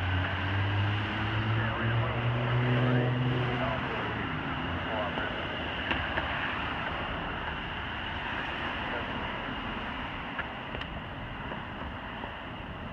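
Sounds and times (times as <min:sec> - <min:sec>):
cars driving past: 0:00.0 - 0:10.7.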